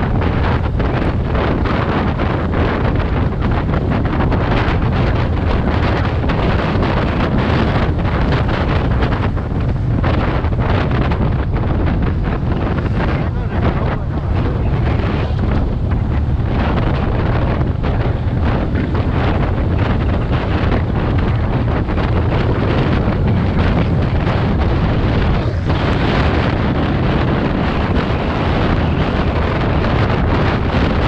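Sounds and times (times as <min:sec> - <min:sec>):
road and engine rumble: 0:00.0 - 0:31.0
wind buffeting microphone: 0:00.0 - 0:31.0.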